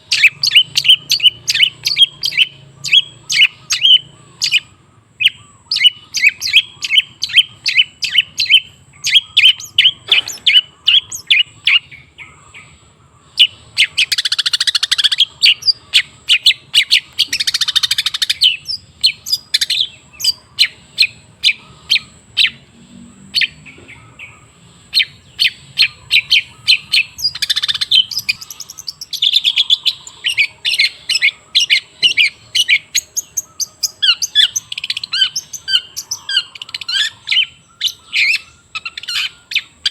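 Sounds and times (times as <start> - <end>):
harsh rasping bird trills: 0.0 - 12.1, 13.4 - 22.6, 24.9 - 39.9
bird chirping: 0.0 - 39.9.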